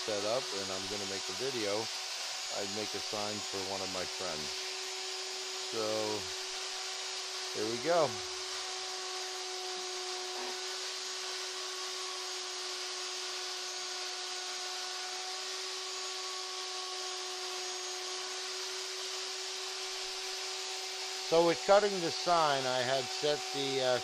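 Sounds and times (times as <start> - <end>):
router spindle high whine: 0.0 - 24.0.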